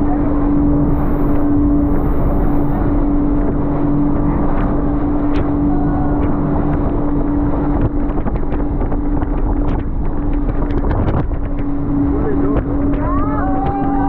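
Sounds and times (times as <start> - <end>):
motorboat engine hum: 0.0 - 14.0
rushing spray and wind: 0.0 - 14.0.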